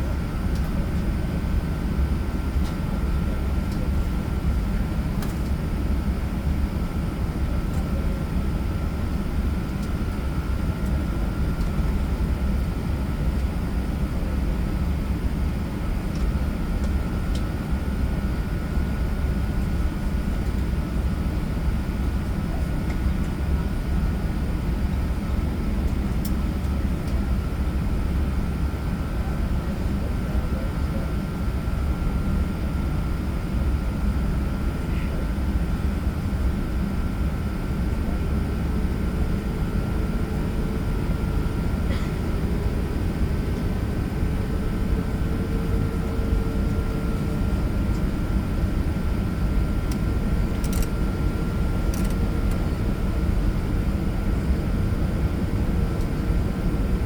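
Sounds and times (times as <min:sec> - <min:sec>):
aircraft cabin engine rumble: 0:00.0 - 0:57.0.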